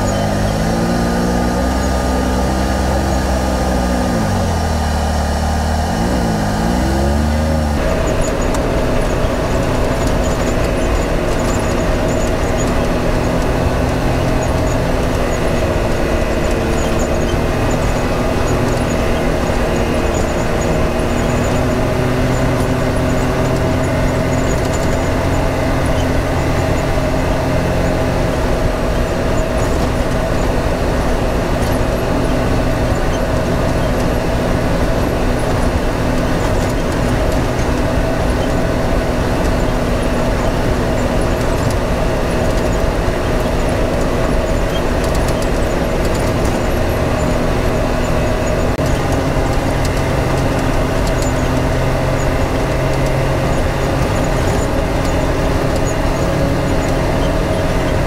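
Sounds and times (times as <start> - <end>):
tyre noise: 0.0 - 58.0
utility vehicle engine running: 0.0 - 58.0.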